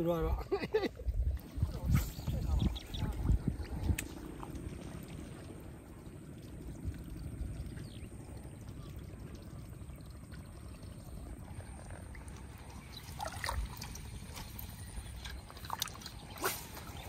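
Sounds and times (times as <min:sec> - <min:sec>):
low wind rumble: 0:00.0 - 0:17.0
water sloshing and splashing: 0:01.2 - 0:17.0
sharp splashes and crackles: 0:01.3 - 0:17.0.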